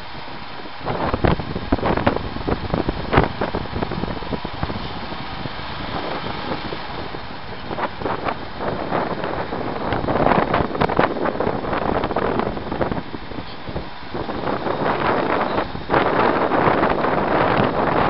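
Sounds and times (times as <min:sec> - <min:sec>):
vehicle engine and road noise: 0:00.0 - 0:18.0
wind buffeting microphone: 0:00.0 - 0:18.0.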